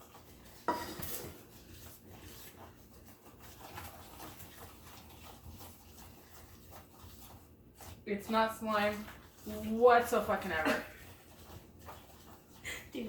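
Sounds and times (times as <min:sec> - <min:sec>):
utensil stirring thick slime: 0:00.0 - 0:13.0.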